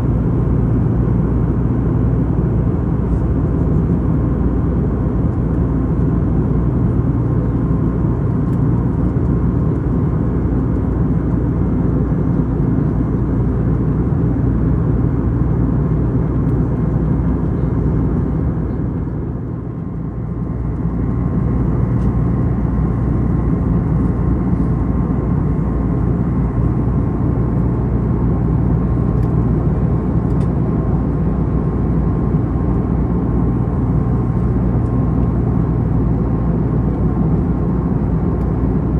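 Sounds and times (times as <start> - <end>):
jet engines and airflow rush: 0.0 - 38.9.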